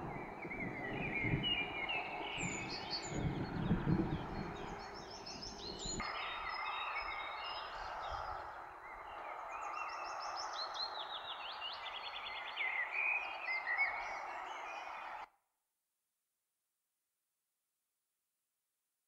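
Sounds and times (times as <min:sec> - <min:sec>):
birds singing: 0:00.0 - 0:15.3.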